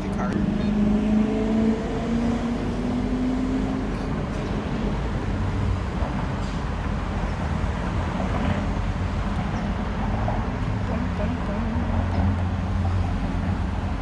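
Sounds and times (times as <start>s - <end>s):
engine hum: 0.0s - 14.0s
road traffic rumble: 0.0s - 14.0s.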